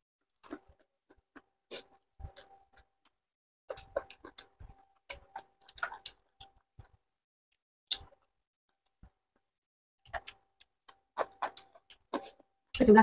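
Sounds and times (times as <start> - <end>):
wet chewing and smacking: 0.2 - 12.8.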